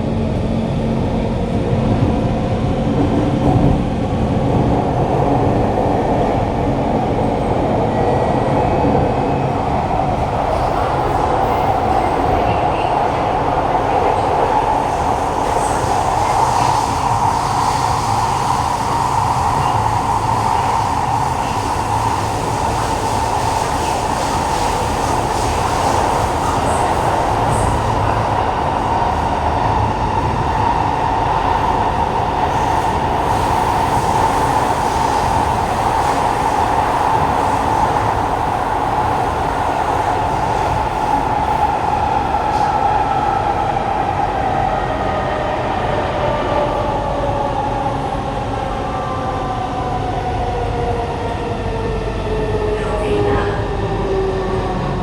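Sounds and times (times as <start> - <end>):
train wheels on rail rumbling: 0.0 - 55.0.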